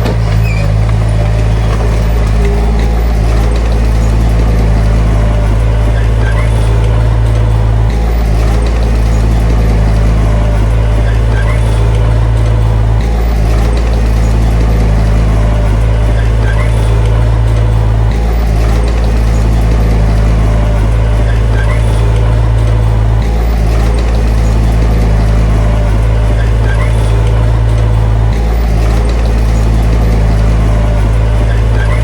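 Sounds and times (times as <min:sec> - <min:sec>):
heavy diesel engine humming: 0:00.0 - 0:32.0.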